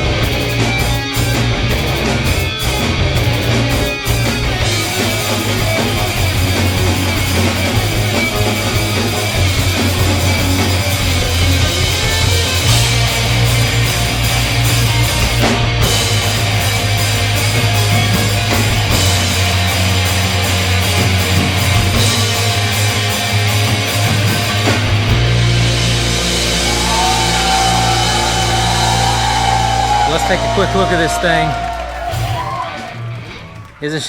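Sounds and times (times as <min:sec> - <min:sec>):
rock music: 0:00.0 - 0:34.0.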